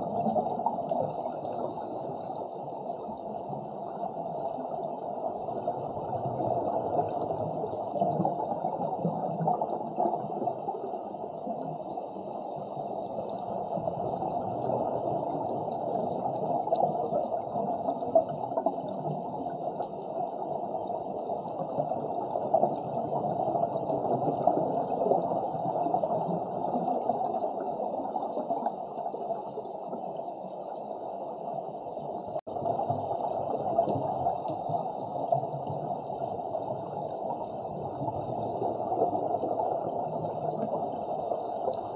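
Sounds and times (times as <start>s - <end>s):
underwater rushing water: 0.0s - 41.9s.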